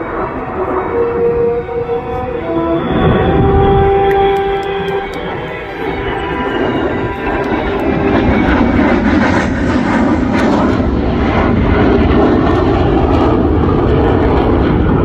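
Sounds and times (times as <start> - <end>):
aircraft engines rushing: 0.0 - 15.0.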